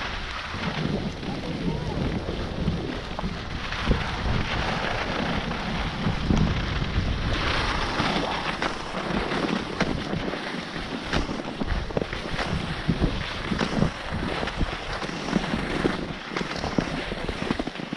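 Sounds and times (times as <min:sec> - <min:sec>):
skis scraping snow: 0:00.0 - 0:17.9
wind rushing over microphone: 0:00.0 - 0:17.9.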